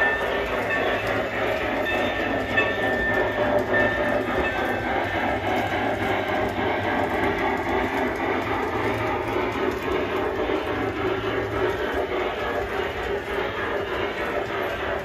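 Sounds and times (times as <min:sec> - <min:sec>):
model train motors humming: 0:00.0 - 0:15.0
wheels clicking over track: 0:00.0 - 0:15.0.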